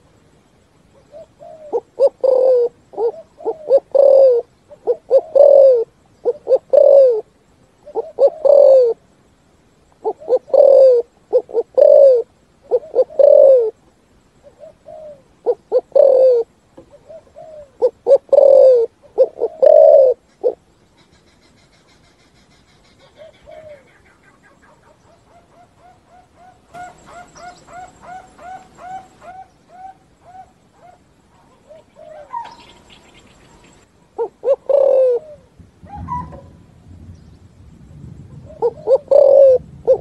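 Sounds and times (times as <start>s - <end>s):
dove cooing: 0.9s - 9.1s, 9.9s - 13.8s, 14.4s - 20.7s, 22.9s - 36.7s, 38.3s - 40.0s.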